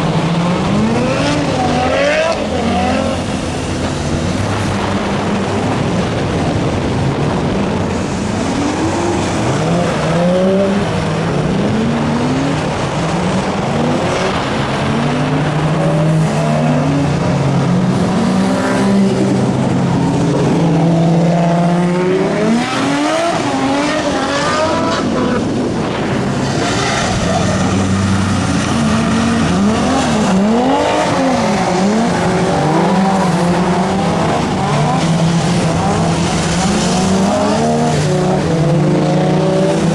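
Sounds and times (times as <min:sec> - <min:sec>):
race car engines revving: 0:00.0 - 0:39.9
tyre and road noise: 0:00.0 - 0:39.9.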